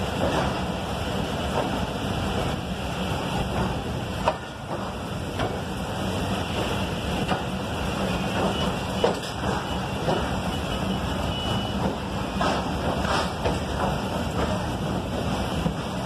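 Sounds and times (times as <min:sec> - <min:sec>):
train knocks and clatters: 0:00.0 - 0:16.0
train rumbling slowly: 0:00.0 - 0:16.0.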